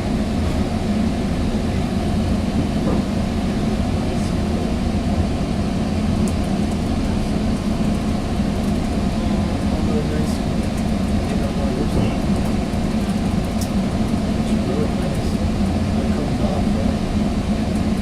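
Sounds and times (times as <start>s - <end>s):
train coach rumble and rail noise: 0.0s - 18.0s.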